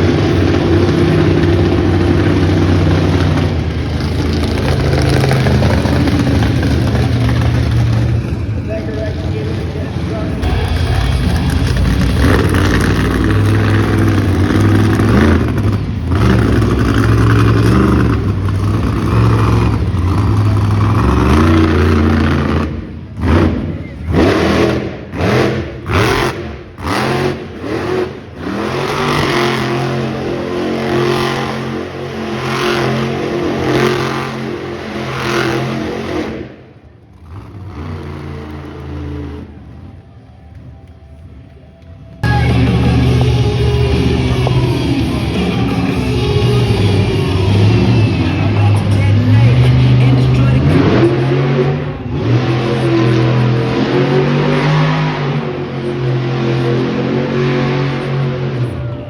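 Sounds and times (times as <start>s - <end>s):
truck engine revving: 0.0s - 41.2s, 42.2s - 59.0s.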